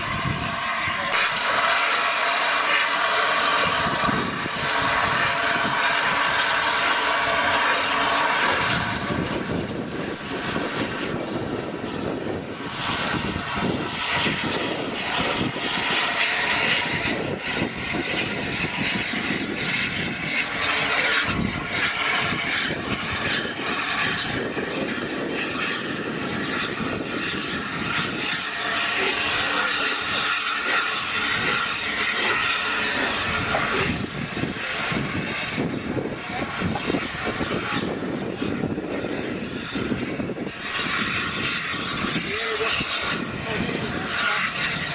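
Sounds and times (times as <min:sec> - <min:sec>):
dense irregular crackle: 0:01.1 - 0:11.2, 0:12.6 - 0:44.9.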